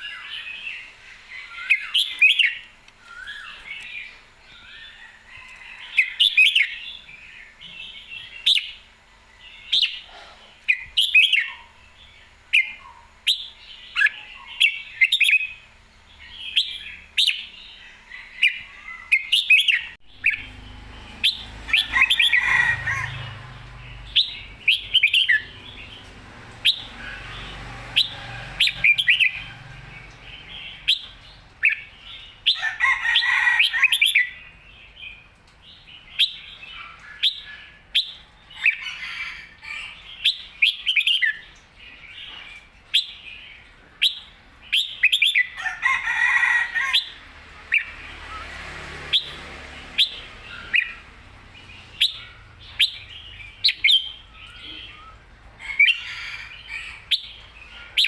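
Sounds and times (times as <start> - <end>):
bird chirping and warbling: 0.0 - 58.0.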